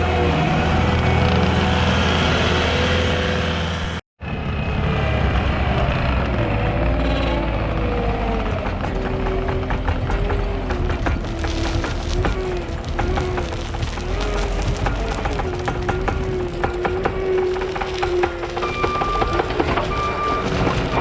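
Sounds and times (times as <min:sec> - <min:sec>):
skid steer diesel engine running: 0:00.0 - 0:04.7, 0:05.8 - 0:21.0.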